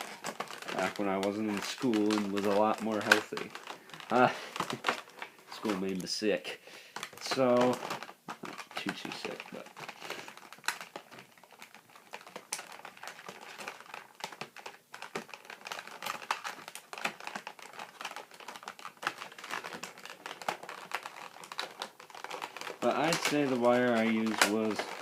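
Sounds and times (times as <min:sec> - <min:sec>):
plastic packaging clicks and rustles: 0:00.0 - 0:25.0.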